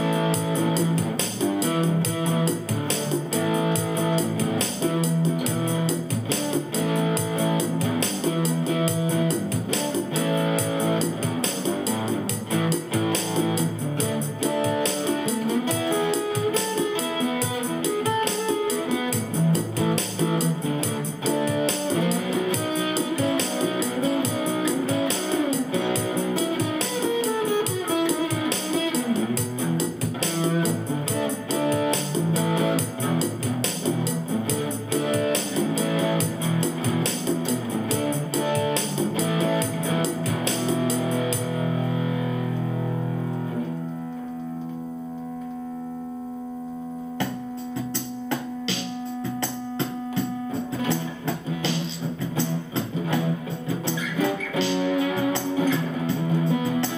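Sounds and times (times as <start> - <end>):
acoustic guitar melody: 0.0 - 56.9.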